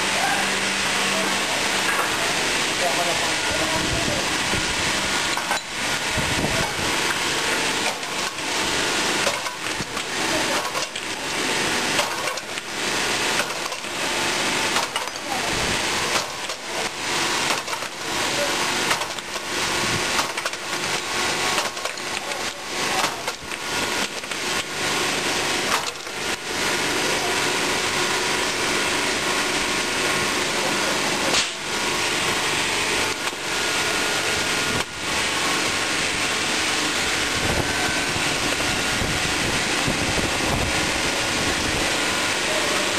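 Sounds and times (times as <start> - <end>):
machine power unit drone: 0.0 - 42.9.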